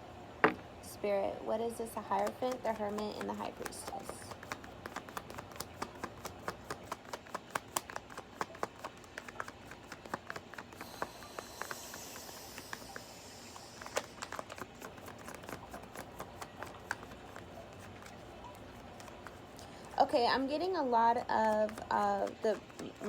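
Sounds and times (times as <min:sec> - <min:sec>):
cards being shuffled: 0:02.0 - 0:20.0, 0:21.3 - 0:23.0.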